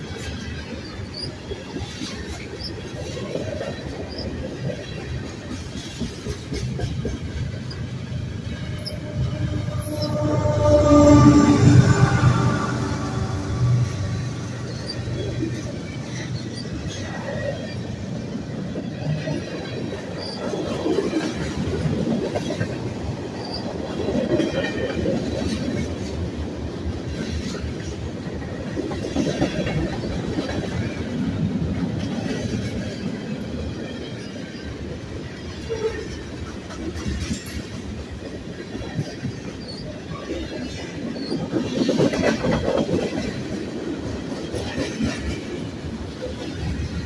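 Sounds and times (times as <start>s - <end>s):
freight train wheels rumbling on rails: 0.0s - 47.0s.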